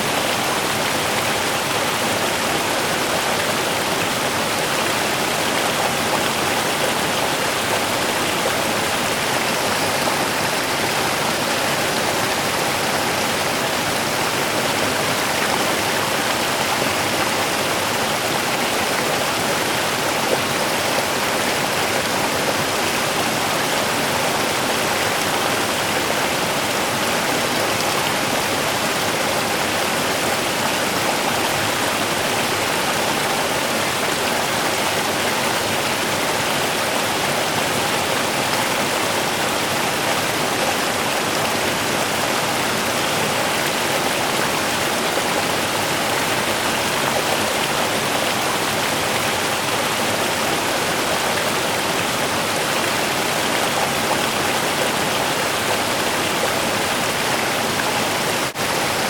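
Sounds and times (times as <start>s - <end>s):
river flowing over rocks: 0.0s - 59.0s.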